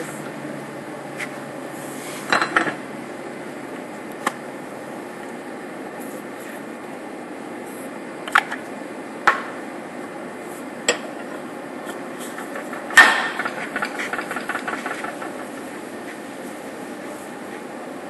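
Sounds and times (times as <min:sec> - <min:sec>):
steady shop hum: 0:00.0 - 0:18.0.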